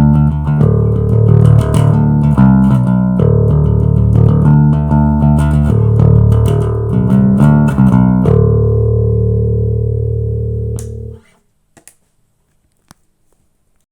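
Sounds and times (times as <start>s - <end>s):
electric bass picked notes: 0.0s - 11.2s.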